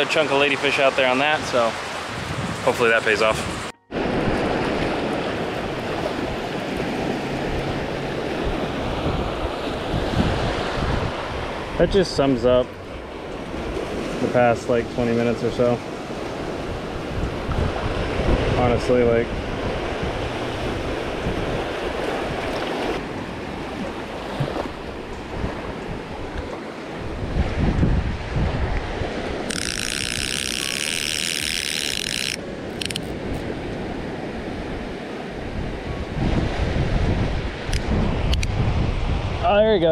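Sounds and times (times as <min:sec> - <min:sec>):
small waves washing onto beach: 0:00.0 - 0:39.9
wind on microphone: 0:01.2 - 0:39.9.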